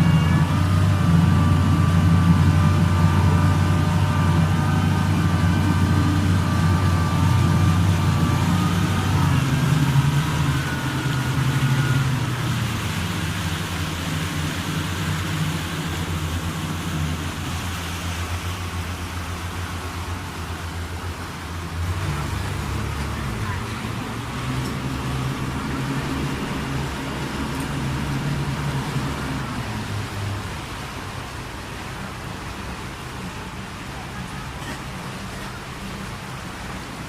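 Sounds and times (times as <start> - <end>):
engine drone: 0.0 - 37.0.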